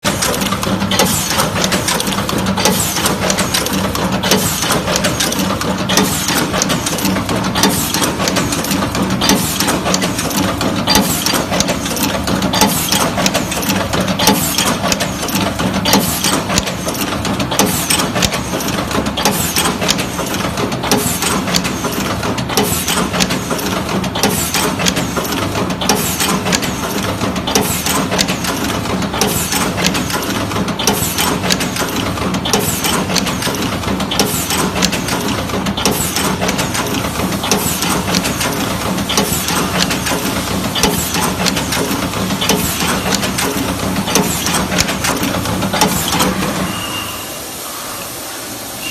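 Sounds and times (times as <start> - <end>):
machine mechanism clicking and clacking: 0.0 - 46.8.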